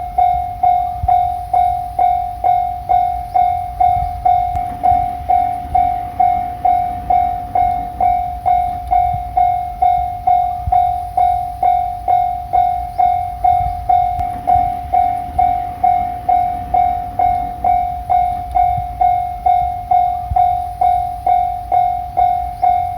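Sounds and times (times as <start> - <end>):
level crossing warning bell: 0.0 - 22.9
low rumble: 3.4 - 22.8.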